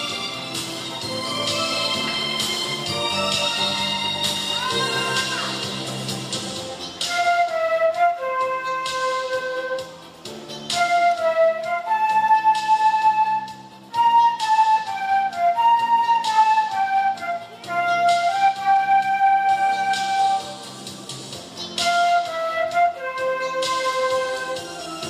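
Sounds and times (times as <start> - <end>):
flute ensemble playing: 0.0 - 6.0, 6.8 - 21.0, 21.6 - 25.0.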